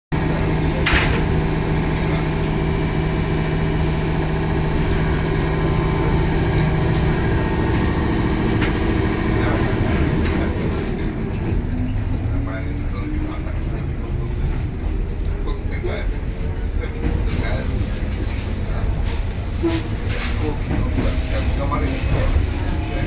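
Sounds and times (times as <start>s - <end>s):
train wheels rumbling on rails: 0.2s - 23.0s.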